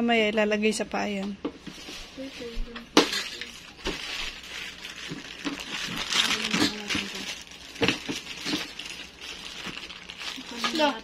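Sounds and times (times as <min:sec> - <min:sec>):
plastic bag crinkling: 0:02.2 - 0:11.0.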